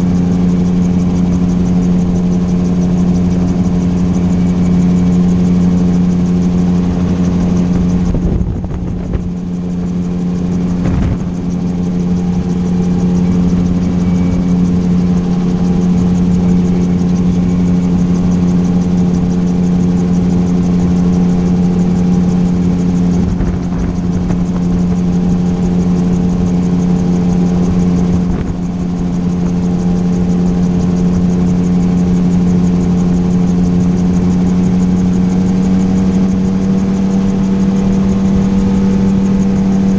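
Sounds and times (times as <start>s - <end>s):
gyroplane engine and propeller drone: 0.0s - 39.9s.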